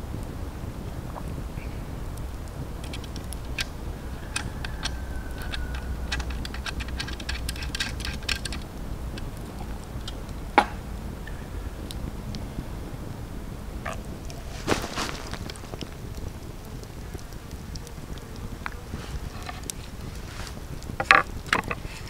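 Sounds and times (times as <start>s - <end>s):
campfire crackling: 0.0s - 22.0s
sharp pops of fire: 1.0s - 12.4s, 13.8s - 22.0s.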